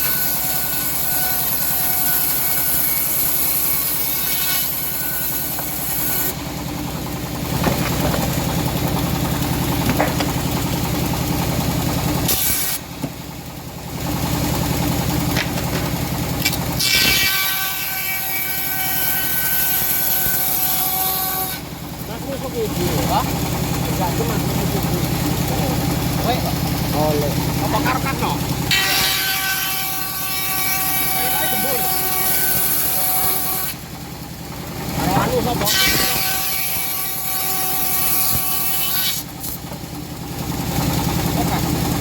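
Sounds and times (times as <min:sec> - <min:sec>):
bandsaw sawing hardwood: 0:00.0 - 0:06.4, 0:07.2 - 0:10.8, 0:11.4 - 0:13.1, 0:14.5 - 0:33.9, 0:34.7 - 0:39.9.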